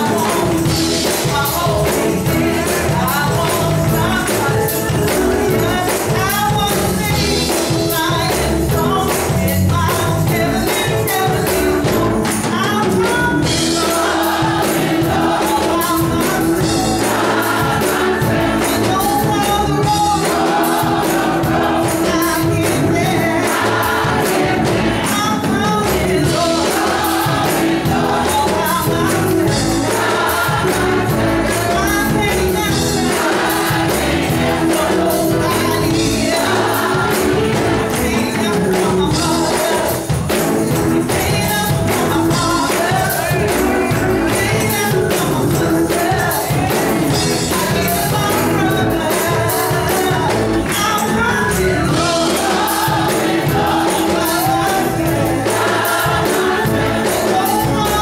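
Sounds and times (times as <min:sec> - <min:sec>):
gospel choir singing: 0:00.0 - 0:58.0
percussive beat: 0:00.0 - 0:58.0.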